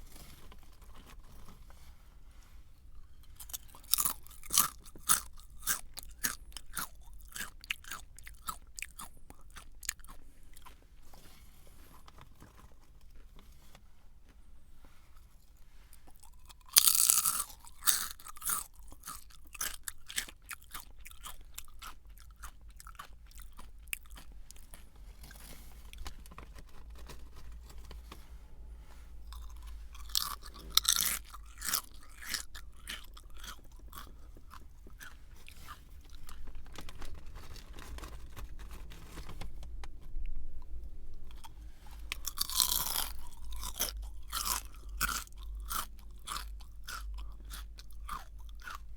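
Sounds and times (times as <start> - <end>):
person chewing crunchy snack: 3.0 - 13.2, 15.5 - 28.0, 29.2 - 39.4, 41.3 - 48.9.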